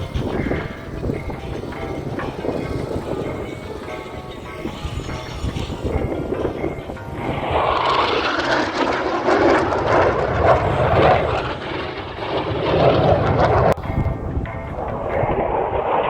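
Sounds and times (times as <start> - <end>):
airplane engine noise: 0.0 - 16.0.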